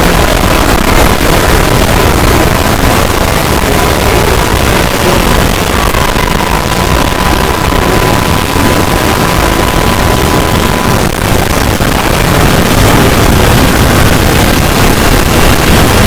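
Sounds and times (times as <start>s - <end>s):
harsh distorted noise: 0.0s - 16.0s
steady beep-like tone: 0.0s - 16.0s.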